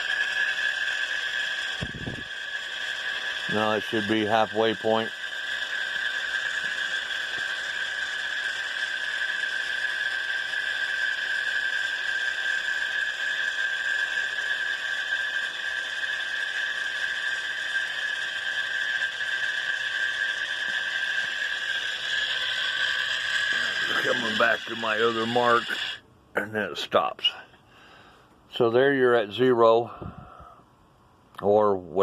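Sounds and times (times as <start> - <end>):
antenna rotator motor whining: 0.0 - 26.0.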